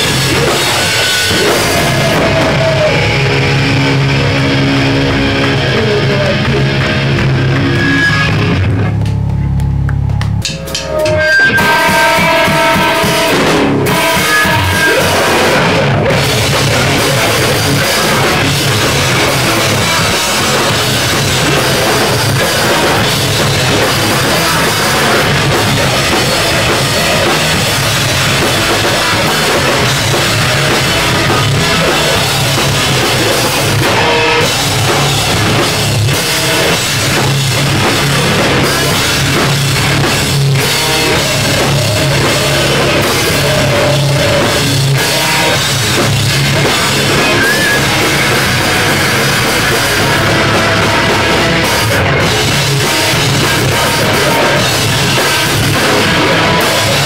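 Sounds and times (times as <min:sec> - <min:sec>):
heavy rock band playing: 0:00.0 - 0:57.0.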